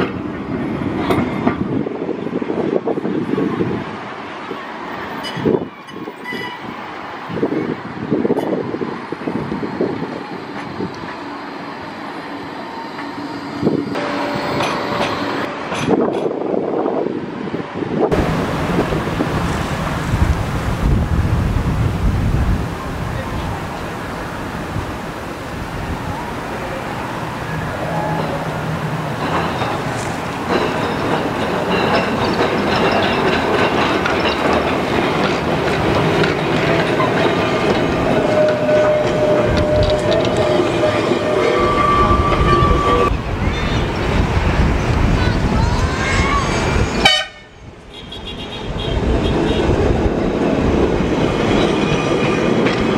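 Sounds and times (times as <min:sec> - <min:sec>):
electric tram hum: 0:00.0 - 0:52.9
wheels on rail: 0:00.0 - 0:52.9.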